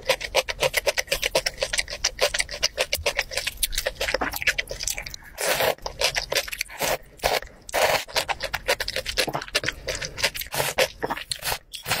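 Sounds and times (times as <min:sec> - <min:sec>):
mouth smacks and chewing: 0:00.0 - 0:12.0
noodles slurped: 0:00.0 - 0:12.0.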